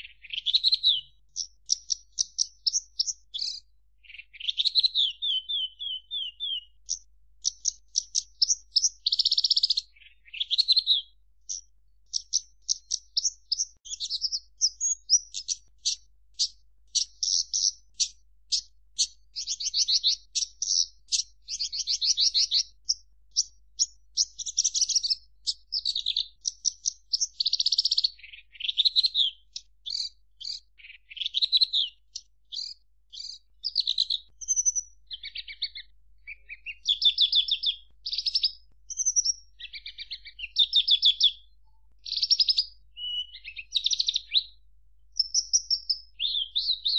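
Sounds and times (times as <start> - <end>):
lark singing trills: 0.0 - 44.6, 45.2 - 46.9.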